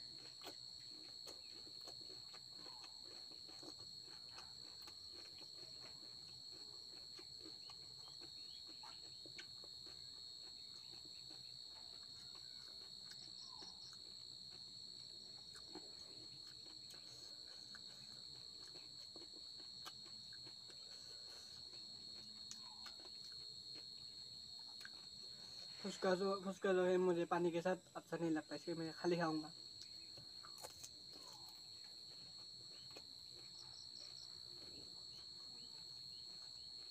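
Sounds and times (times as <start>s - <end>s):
crunching of crisp shells: 0.0s - 25.3s, 29.5s - 36.9s
crickets trilling: 0.0s - 36.9s.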